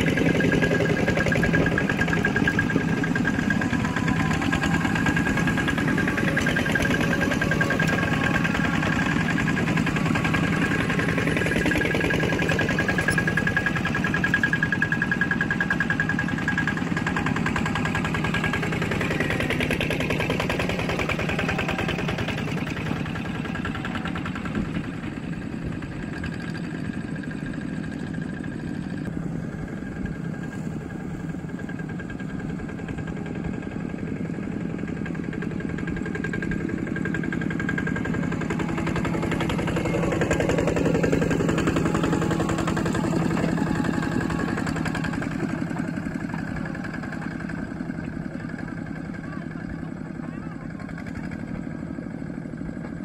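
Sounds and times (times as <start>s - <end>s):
diesel engines chugging: 0.0s - 53.0s.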